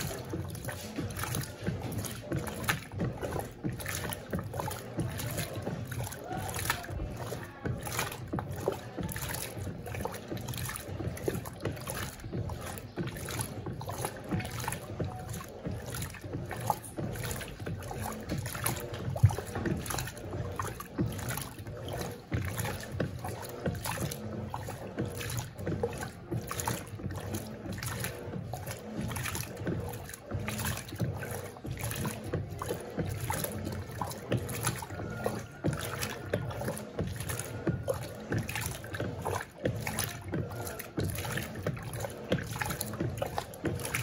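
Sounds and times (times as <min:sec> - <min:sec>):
washing machine motor hum: 0:00.0 - 0:44.0
water and fabric swishing: 0:00.0 - 0:44.0.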